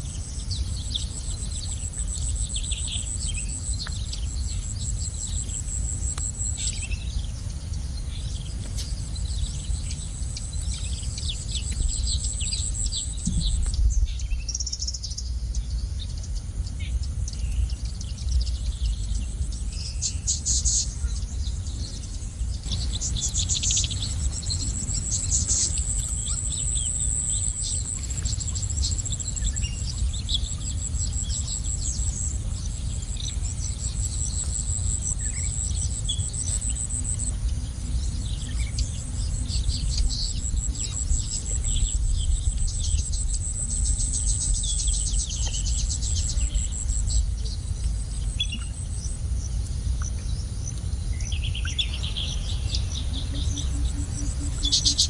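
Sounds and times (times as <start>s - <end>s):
insects trilling: 0.0s - 55.0s
small birds chirping: 0.0s - 55.0s
steady low rumble: 0.0s - 55.0s.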